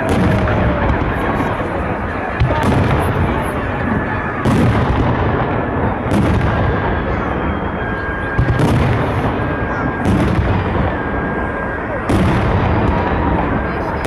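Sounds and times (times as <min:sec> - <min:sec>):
firework shells booming: 0:00.0 - 0:14.0
fireworks crackling and rumbling: 0:00.0 - 0:14.0.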